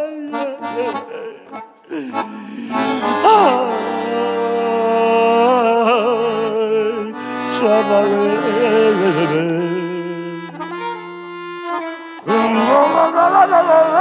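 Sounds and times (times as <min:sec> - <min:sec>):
instrumental melody with trills: 0:00.0 - 0:14.0.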